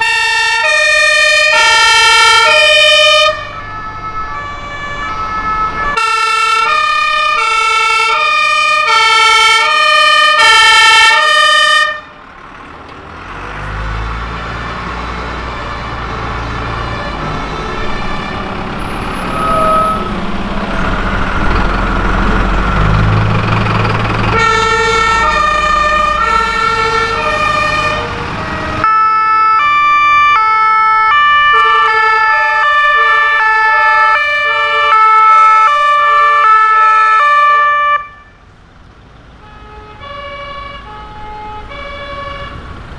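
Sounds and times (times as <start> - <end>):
two-tone fire engine sirens: 0.0 - 12.3, 13.3 - 38.6, 39.2 - 42.9
diesel fire truck engine rumbling: 0.0 - 42.9.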